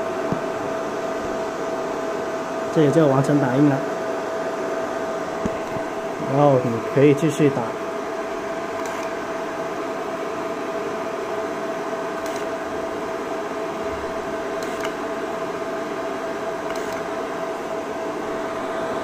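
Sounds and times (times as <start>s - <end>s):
cooling fans running: 0.0s - 19.0s
laser coding machine humming: 0.0s - 19.0s.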